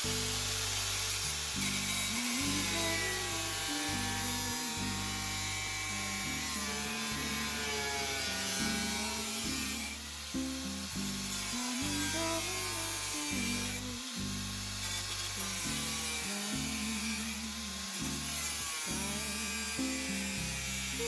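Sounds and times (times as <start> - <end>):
song with bass and melody: 0.0 - 21.0.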